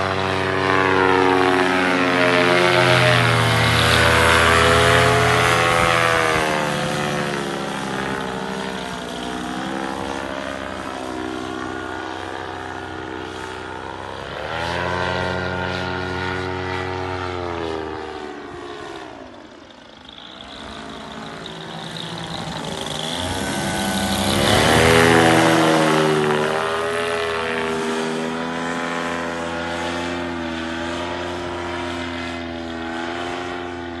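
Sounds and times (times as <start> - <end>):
paramotor engine droning overhead: 0.0 - 34.0.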